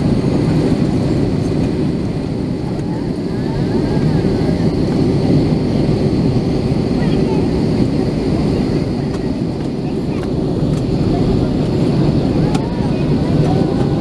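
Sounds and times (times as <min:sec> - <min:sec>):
airliner cabin engine noise: 0:00.0 - 0:14.0.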